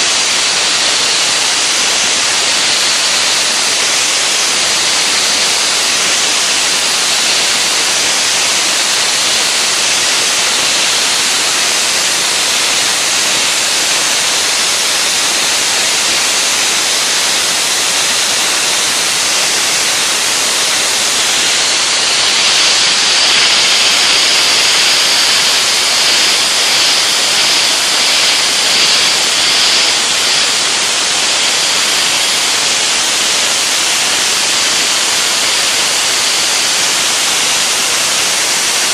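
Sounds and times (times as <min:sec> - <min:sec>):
dry ice blaster hissing: 0:00.0 - 0:38.9.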